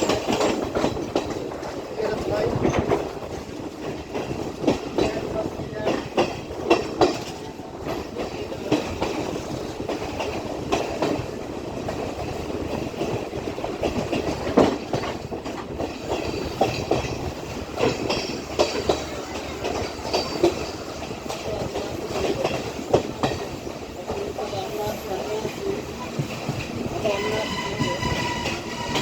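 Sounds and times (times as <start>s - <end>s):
train rumble: 0.0s - 29.0s
wheels clacking over rail joints: 0.0s - 29.0s.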